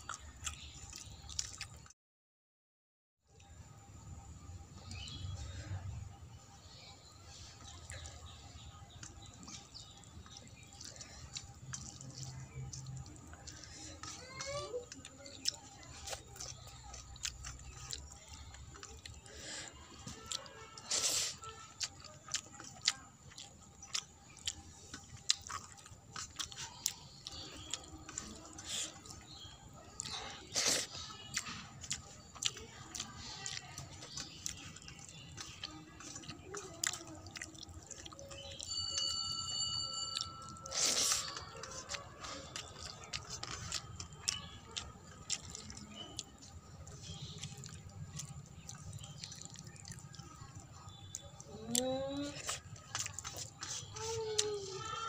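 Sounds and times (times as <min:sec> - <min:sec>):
chewing and wet mouth clicks: 0:00.0 - 0:01.9, 0:04.8 - 0:05.6, 0:07.6 - 0:39.1, 0:40.1 - 0:55.0.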